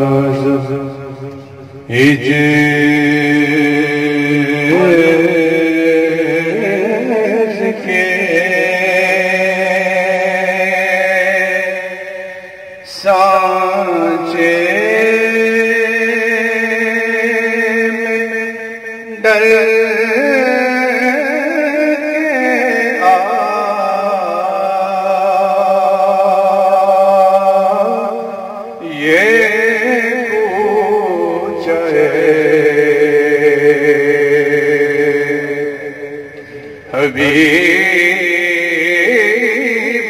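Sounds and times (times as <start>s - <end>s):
man chanting: 0.0s - 40.0s.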